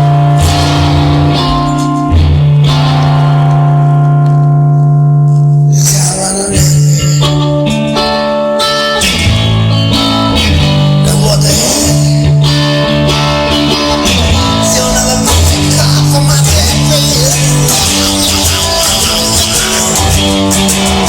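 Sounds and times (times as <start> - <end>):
instrumental guitar music: 0.0 - 21.0.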